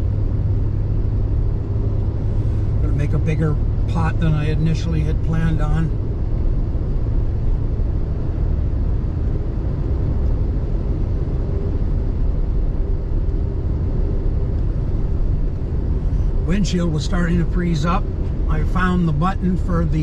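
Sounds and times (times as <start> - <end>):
truck engine and tyre rumble: 0.0 - 20.0.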